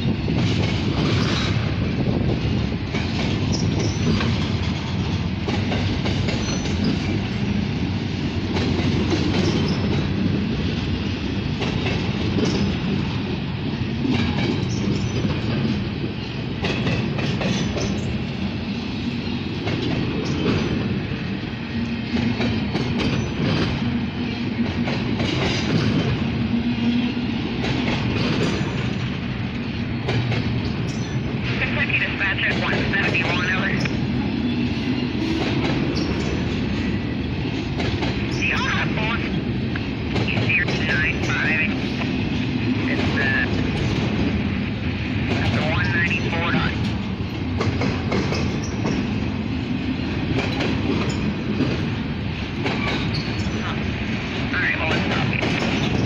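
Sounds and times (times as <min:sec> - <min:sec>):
wheels clacking over rail joints: 0:00.0 - 0:10.9, 0:11.5 - 0:31.6, 0:32.5 - 0:38.4, 0:39.2 - 0:56.0
train wheels rumbling on rail: 0:00.0 - 0:56.0.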